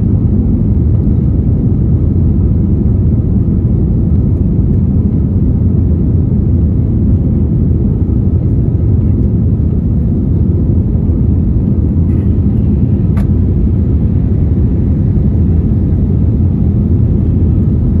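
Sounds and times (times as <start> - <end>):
aircraft cabin engine rumble: 0.0 - 18.0.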